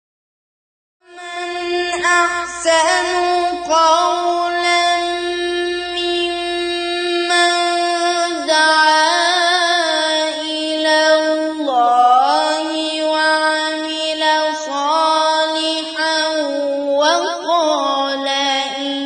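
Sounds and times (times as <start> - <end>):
solo voice chanting: 1.0 - 19.0.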